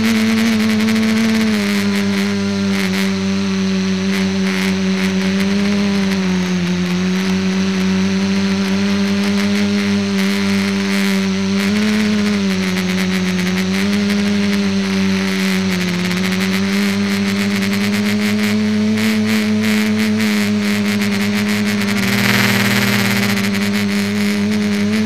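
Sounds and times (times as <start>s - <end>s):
multicopter motors buzzing: 0.0s - 25.0s.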